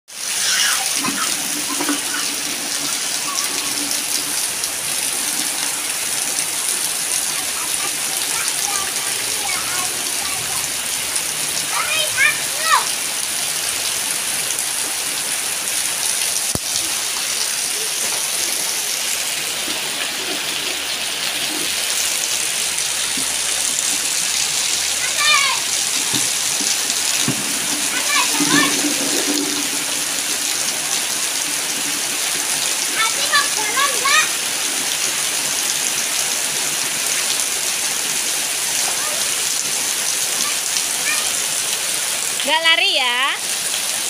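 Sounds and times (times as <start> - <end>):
heavy rain on trees and concrete: 0.1 - 44.0
water pouring and splashing: 0.1 - 44.0.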